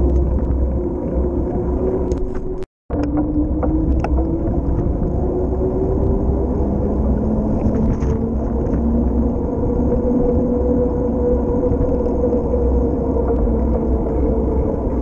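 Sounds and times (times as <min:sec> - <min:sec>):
bicycle tyres humming on asphalt: 0:00.0 - 0:15.0
wind rumbling on microphone: 0:00.0 - 0:15.0.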